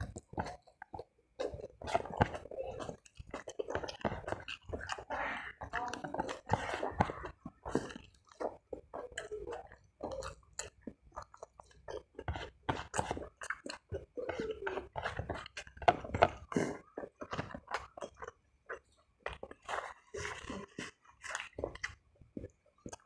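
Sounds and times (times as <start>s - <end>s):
chewing with mouth clicks: 0.0s - 23.0s.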